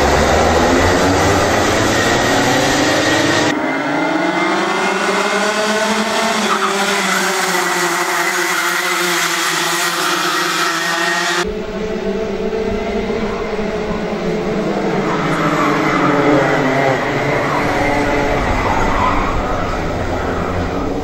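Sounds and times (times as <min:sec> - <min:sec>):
kart engines buzzing past: 0:00.0 - 0:21.0.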